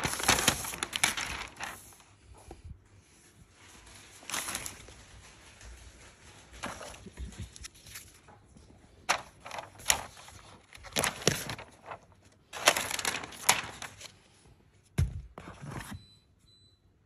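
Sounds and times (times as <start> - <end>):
paper crinkling: 0.0 - 14.5.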